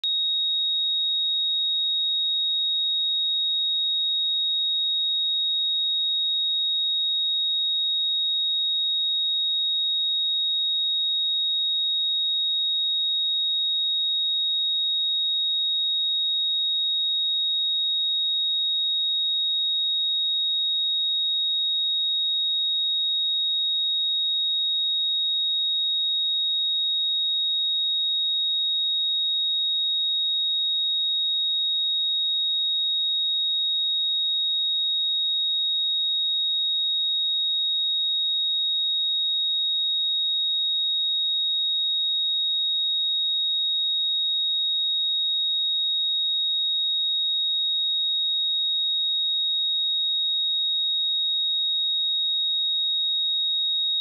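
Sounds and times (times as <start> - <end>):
sine wave test tone: 0.0 - 54.0.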